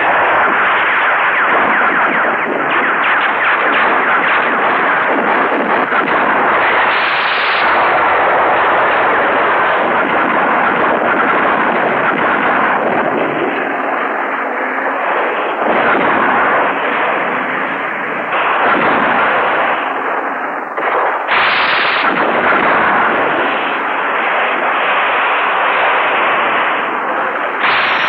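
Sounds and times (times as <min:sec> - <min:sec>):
tank cannons firing: 0:00.0 - 0:28.0.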